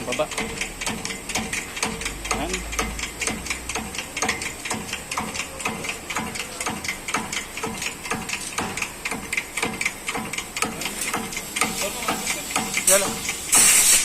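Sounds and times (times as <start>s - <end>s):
hydraulic press pump clicking: 0.0s - 14.0s.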